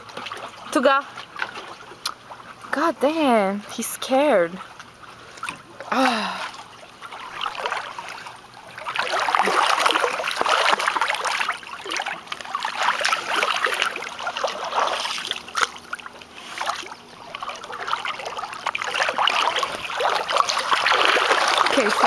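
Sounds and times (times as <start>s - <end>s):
pool water splashing: 0.0s - 22.0s.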